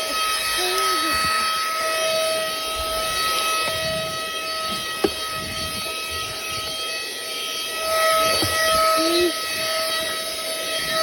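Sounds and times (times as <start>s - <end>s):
vacuum cleaner motor whining: 0.0s - 11.0s.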